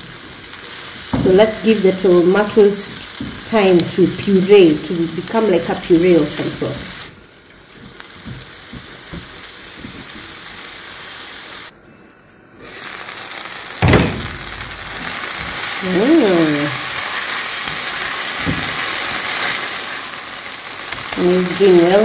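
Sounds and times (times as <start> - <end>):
onions sizzling in a frying pan: 0.0 - 11.7, 12.6 - 22.0.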